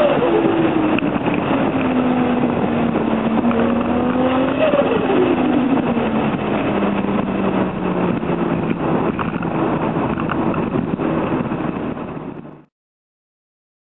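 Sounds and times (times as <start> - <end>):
car engine running: 0.0 - 12.6
road noise: 0.0 - 12.7.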